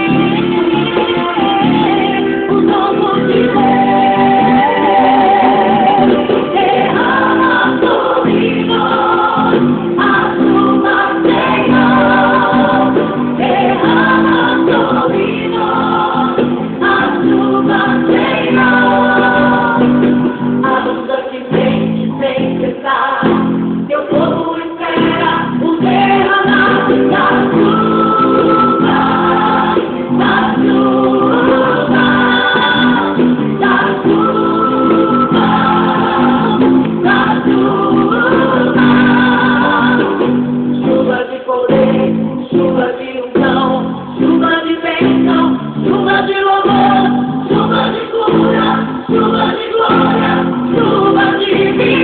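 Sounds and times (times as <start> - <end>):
group of voices singing: 0.0 - 52.0
instrumental accompaniment: 0.0 - 52.0.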